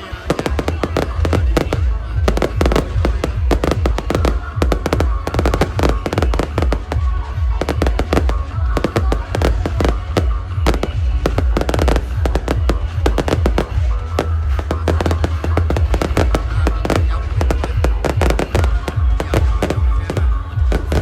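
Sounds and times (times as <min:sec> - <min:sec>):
fireworks crackling and popping: 0:00.0 - 0:21.0
music playing: 0:00.0 - 0:21.0
fireworks deep booms: 0:00.2 - 0:21.0.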